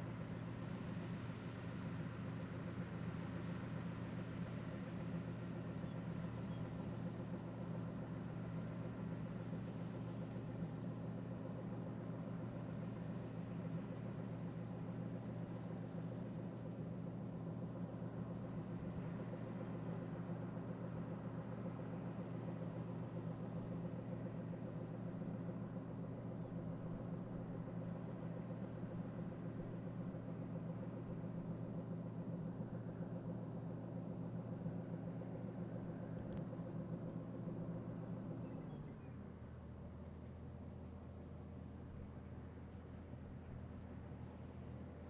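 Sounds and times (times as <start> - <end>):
large engine running: 0.0 - 45.0.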